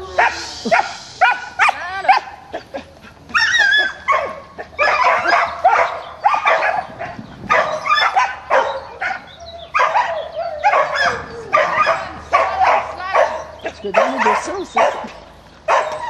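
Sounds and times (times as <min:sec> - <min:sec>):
dog barking: 0:00.2 - 0:02.3, 0:03.4 - 0:16.0.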